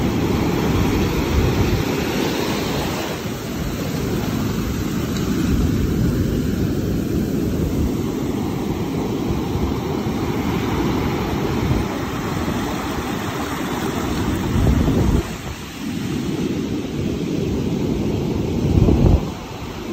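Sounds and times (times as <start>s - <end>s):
water churning in boat wake: 0.0s - 19.9s.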